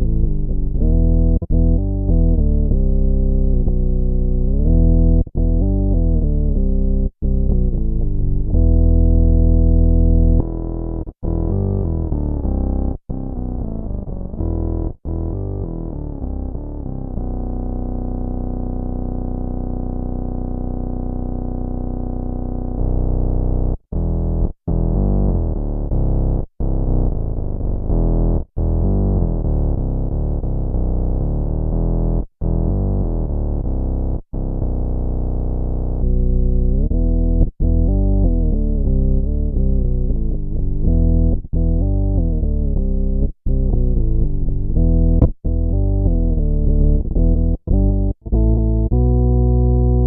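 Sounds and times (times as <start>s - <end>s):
synth bass tones: 0.0s - 50.0s.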